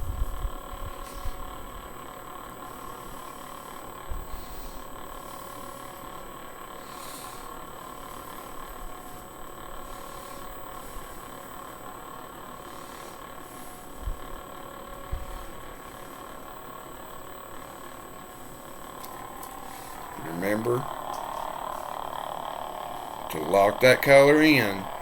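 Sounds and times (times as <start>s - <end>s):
lightsaber idle hum: 0.0s - 25.0s.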